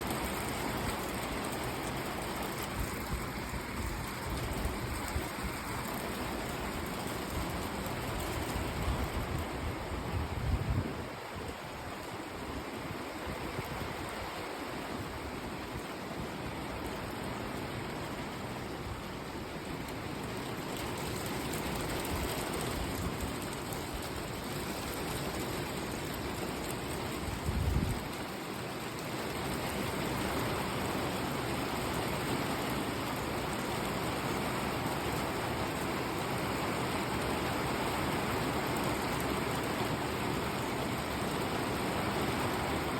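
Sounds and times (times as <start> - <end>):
heavy rain drumming on wood: 0.0 - 42.9.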